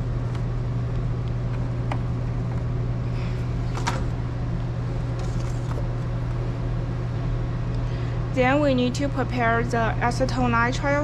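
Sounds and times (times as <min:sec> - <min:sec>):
lab equipment humming: 0:00.0 - 0:11.0.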